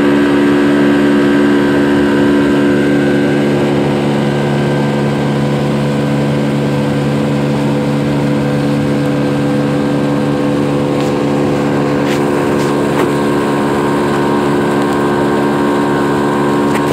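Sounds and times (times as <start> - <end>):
motorboat engine droning: 0.0 - 16.9
water rushing from wake: 0.0 - 16.9.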